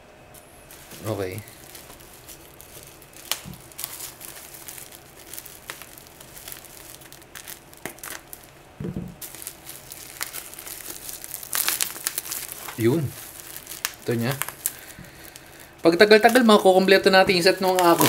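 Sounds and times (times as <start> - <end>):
packaging crinkling and rustling: 0.6 - 18.0.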